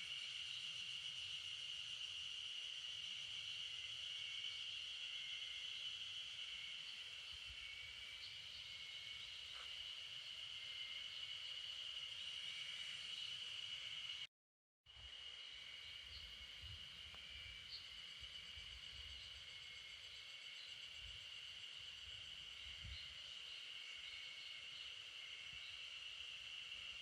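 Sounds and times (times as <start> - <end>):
insects droning: 0.0 - 14.3, 14.9 - 27.0.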